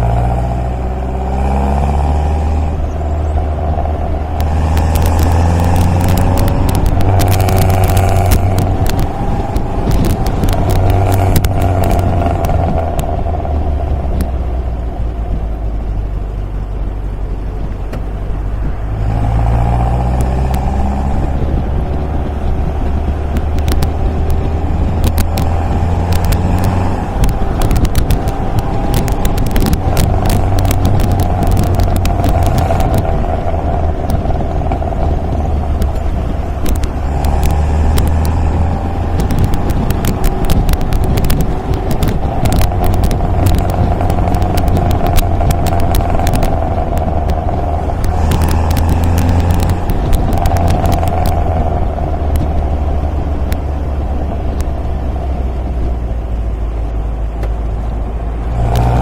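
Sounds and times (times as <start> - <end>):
car engine running: 0.0 - 59.0
short crackles: 1.6 - 15.3, 18.8 - 59.0.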